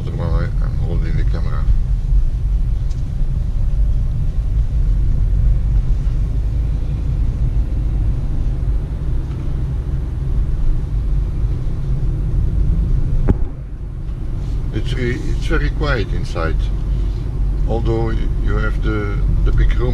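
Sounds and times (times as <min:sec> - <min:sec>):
van cabin road rumble: 0:00.0 - 0:19.9.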